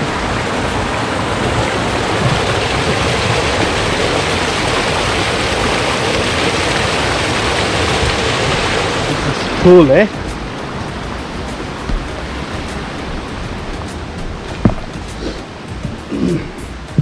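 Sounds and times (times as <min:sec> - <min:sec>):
creek rushing: 0:00.0 - 0:17.0.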